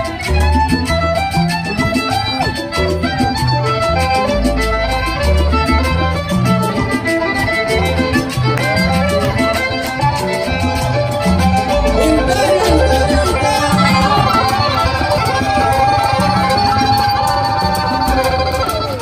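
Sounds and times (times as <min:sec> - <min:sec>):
latin dance band playing: 0:00.0 - 0:19.0.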